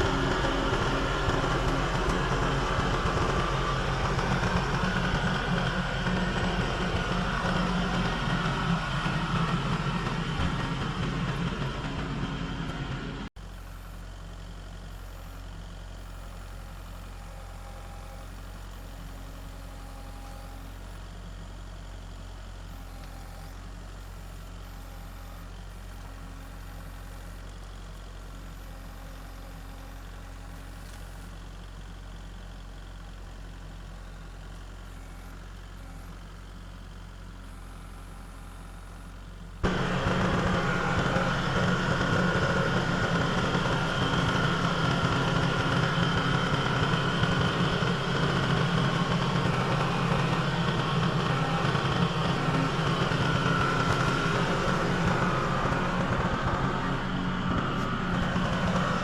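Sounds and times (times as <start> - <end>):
engine idling: 0.0 - 59.0
engine running hard: 0.0 - 59.0.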